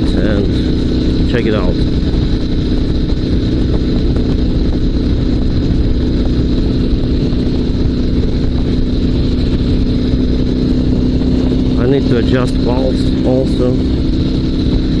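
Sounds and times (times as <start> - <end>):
motorcycle engine running steadily: 0.0 - 15.0.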